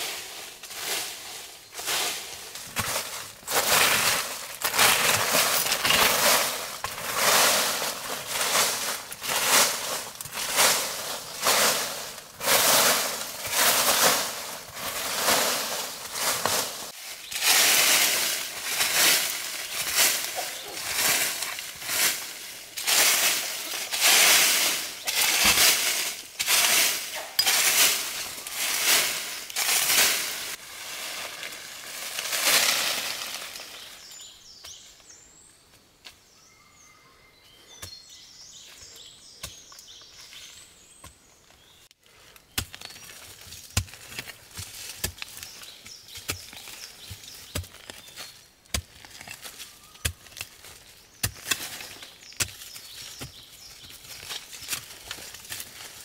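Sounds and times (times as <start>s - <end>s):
hoe scraping through leaves and soil: 0.0s - 34.8s, 41.6s - 56.0s.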